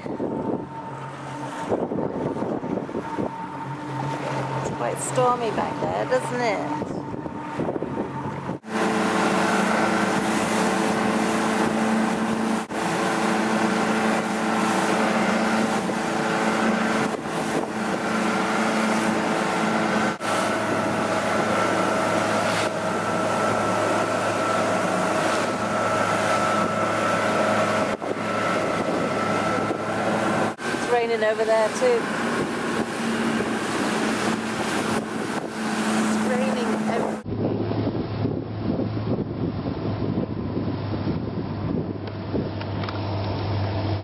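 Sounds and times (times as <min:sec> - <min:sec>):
motorboat engine droning: 0:00.0 - 0:44.0
wind noise on microphone: 0:00.0 - 0:44.0.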